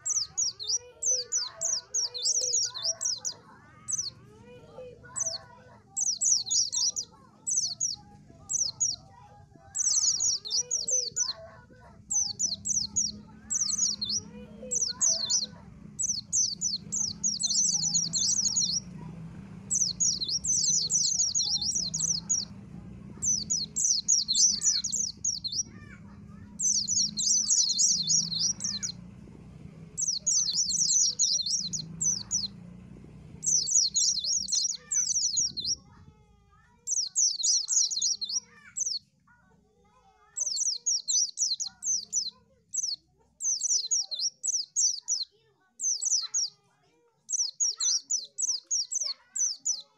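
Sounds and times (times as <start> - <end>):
songbird twittering: 0.0 - 36.0, 36.8 - 39.1, 40.4 - 46.6, 47.3 - 49.9.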